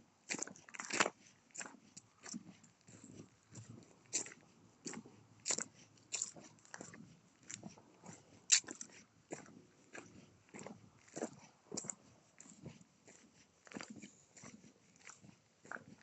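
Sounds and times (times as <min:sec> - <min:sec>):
footsteps crunching on gravel: 0:00.3 - 0:16.0.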